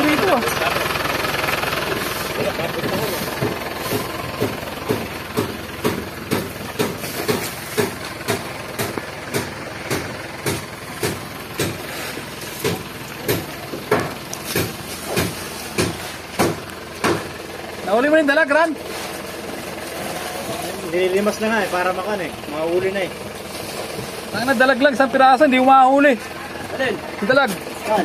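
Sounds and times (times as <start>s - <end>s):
machine running: 0.0s - 28.0s.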